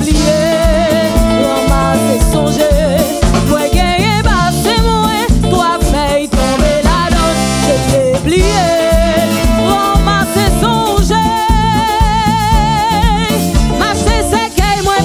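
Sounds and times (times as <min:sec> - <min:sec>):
live band playing: 0:00.0 - 0:15.0
woman singing: 0:00.0 - 0:15.0.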